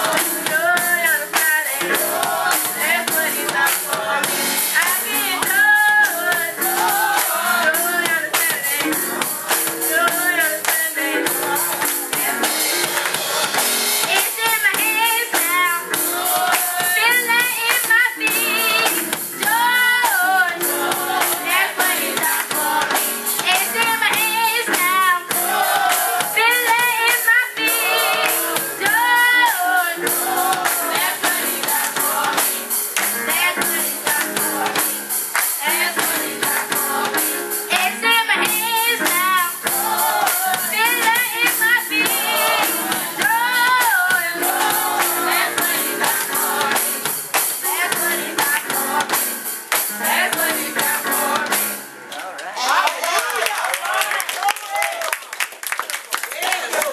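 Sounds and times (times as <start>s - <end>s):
choir singing gospel: 0.0s - 52.9s
clapping and percussion beat: 0.0s - 56.9s.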